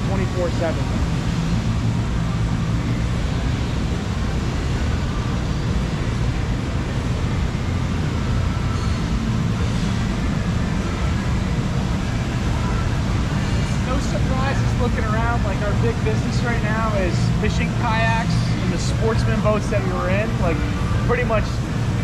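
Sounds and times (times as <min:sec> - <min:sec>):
factory machinery rumble: 0:00.0 - 0:22.0.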